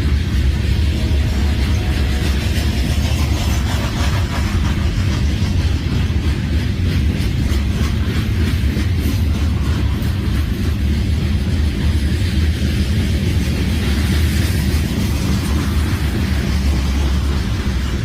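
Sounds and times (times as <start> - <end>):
railroad cars rumbling: 0.0 - 18.0
wheels clacking over rail joints: 0.0 - 18.0.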